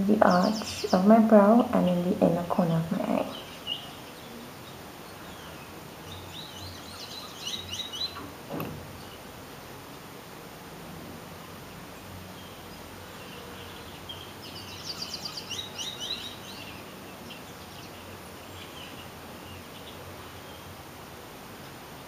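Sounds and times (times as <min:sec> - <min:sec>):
bird chirping: 0:00.0 - 0:09.3, 0:12.0 - 0:20.8
background hiss: 0:00.0 - 0:22.0.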